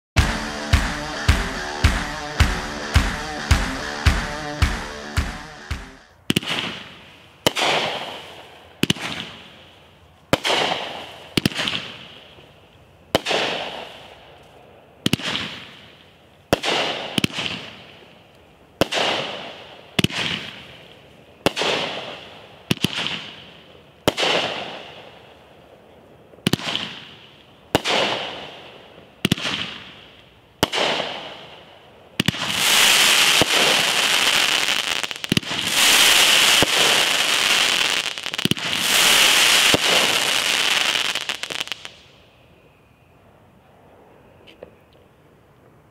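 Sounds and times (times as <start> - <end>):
firework bangs with hiss: 0.2 - 12.4, 13.1 - 14.4, 15.0 - 18.1, 18.8 - 42.2
continuous firework crackling: 0.2 - 42.2.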